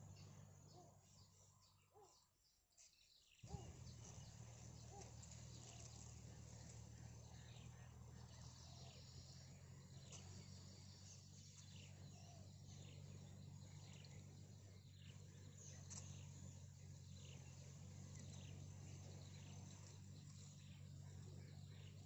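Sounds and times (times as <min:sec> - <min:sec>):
steady low hum: 0:00.0 - 0:01.9, 0:03.4 - 0:22.0.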